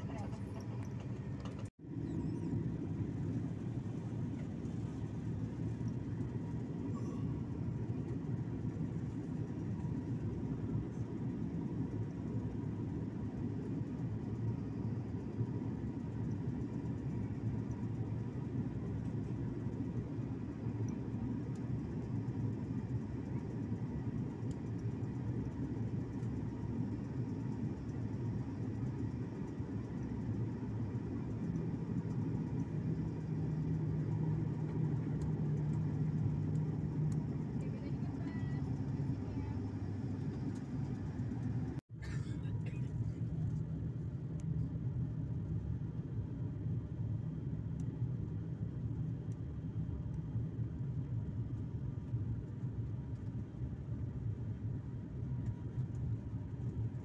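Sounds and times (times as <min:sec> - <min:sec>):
low hum: 0:00.0 - 0:48.0
airliner cabin rumble: 0:00.0 - 0:57.0.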